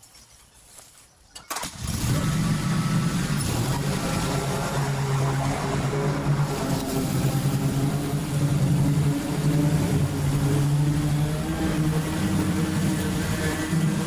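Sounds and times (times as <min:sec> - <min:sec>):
mower engine under load: 0:01.4 - 0:14.0.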